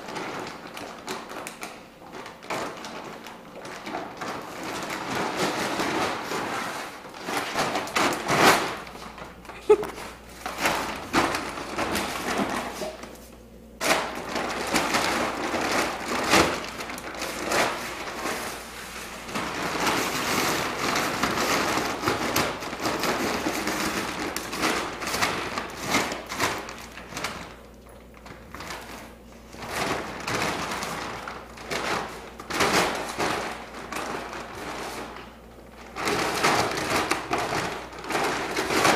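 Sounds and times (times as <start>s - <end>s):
plastic bag crinkling: 0.0s - 38.9s.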